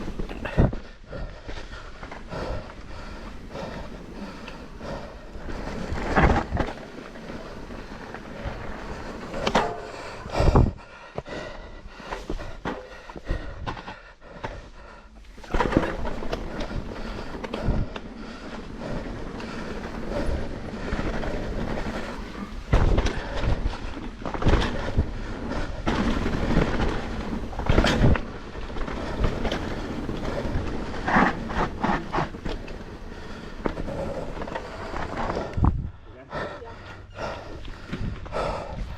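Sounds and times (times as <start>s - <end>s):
bike tyre rumble and rattling: 0.0s - 38.9s.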